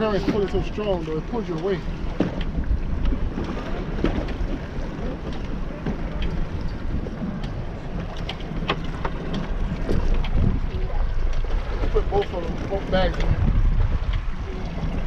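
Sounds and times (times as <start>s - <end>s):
water splashing against hull: 0.0s - 15.0s
wind buffeting microphone: 0.0s - 15.0s.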